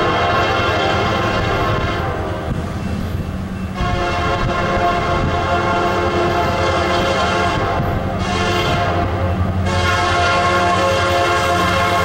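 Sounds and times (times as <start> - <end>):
locomotive air horn chord: 0.0 - 2.9, 3.6 - 12.0
low locomotive rumble: 0.0 - 12.0.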